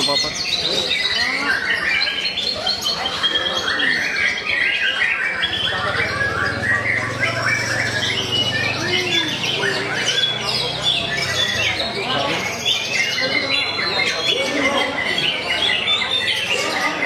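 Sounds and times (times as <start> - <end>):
caged songbirds singing: 0.0 - 17.0.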